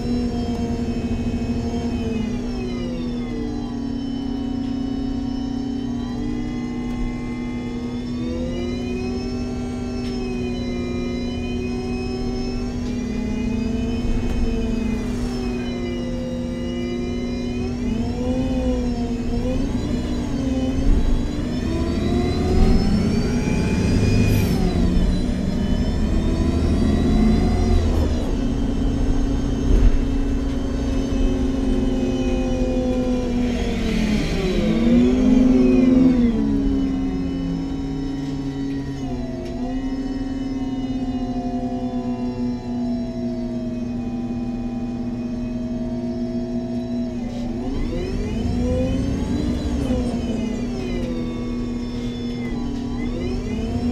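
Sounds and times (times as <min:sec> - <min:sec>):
bus gearbox and engine whining: 0:00.0 - 0:53.9
road rumble: 0:00.0 - 0:53.9.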